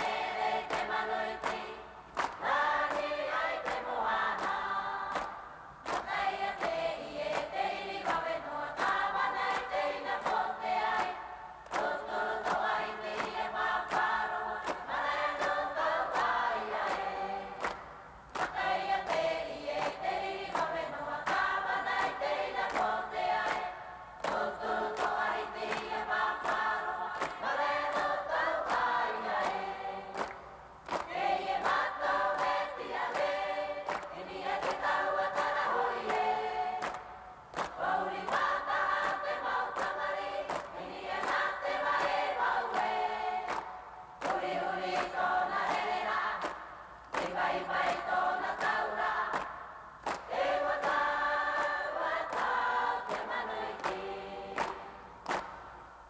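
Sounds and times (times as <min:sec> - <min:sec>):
choir singing: 0:00.0 - 0:55.8.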